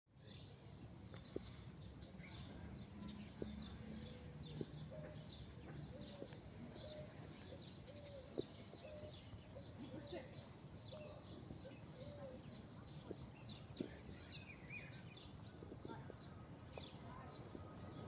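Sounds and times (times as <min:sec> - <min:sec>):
birds chirping: 0:00.3 - 0:18.0.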